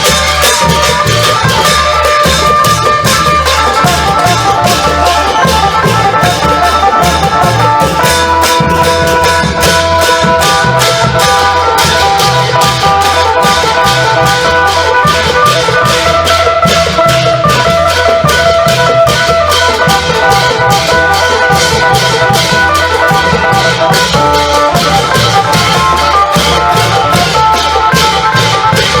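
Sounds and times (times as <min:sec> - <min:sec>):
deep drums beating: 0:00.0 - 0:29.0.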